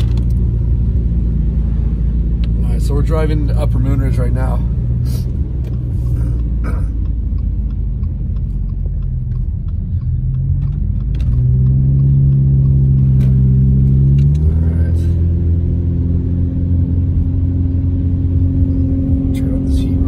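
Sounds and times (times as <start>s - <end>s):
car engine: 0.0s - 20.0s
road rumble on wet pavement: 0.0s - 20.0s.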